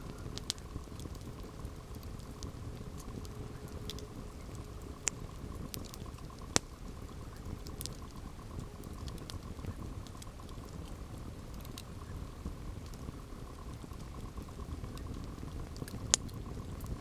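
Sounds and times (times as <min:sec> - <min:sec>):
campfire crackling: 0:00.0 - 0:17.0
low steady rumble: 0:00.0 - 0:17.0
sharp fire pops: 0:00.0 - 0:17.0.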